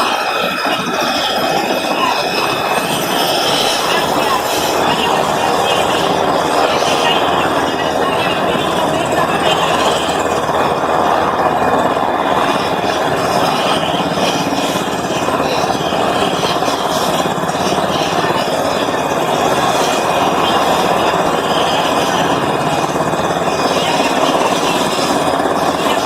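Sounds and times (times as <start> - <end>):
helicopter turbines and rotor: 0.0 - 26.0.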